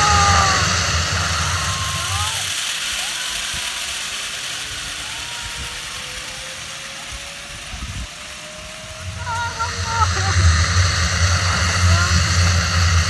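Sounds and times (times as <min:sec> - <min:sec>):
faint rising whine: 0:00.0 - 0:13.0
zipline pulleys whirring: 0:00.0 - 0:13.0.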